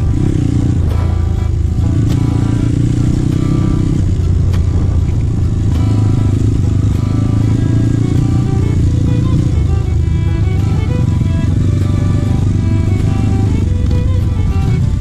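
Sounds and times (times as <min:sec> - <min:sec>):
background music: 0:00.0 - 0:15.0
motorcycle engine running: 0:00.0 - 0:15.0.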